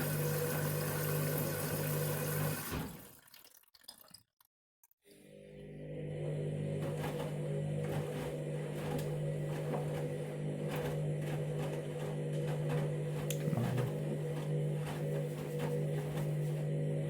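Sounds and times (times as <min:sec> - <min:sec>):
washing machine motor humming: 0:00.0 - 0:03.1, 0:05.2 - 0:17.0.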